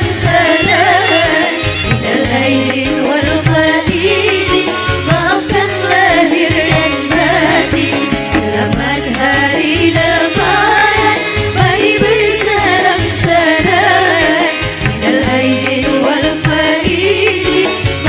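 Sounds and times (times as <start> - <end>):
repeating bass beat: 1.7 - 18.0.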